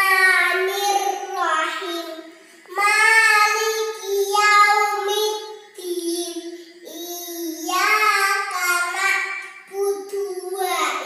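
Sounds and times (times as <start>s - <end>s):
girl chanting prayer: 0.0s - 11.0s.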